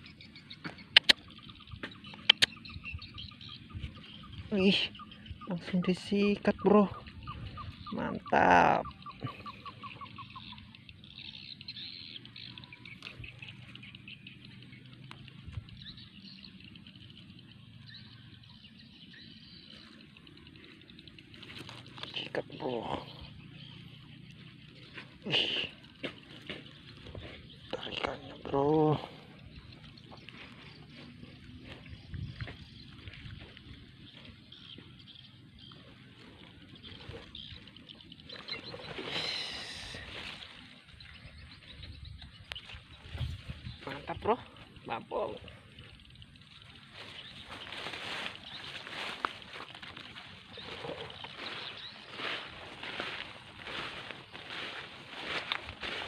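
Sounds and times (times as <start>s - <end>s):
faint outdoor ambience: 0.0s - 56.0s
small birds chirping: 0.0s - 56.0s.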